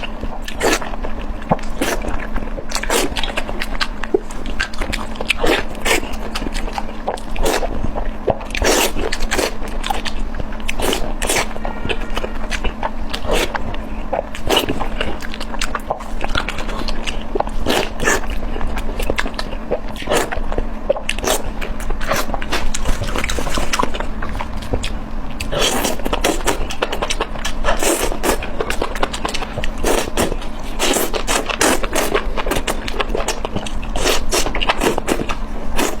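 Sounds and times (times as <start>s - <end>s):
low hum: 0.0s - 34.0s
chewing and mouth smacks: 0.0s - 36.0s.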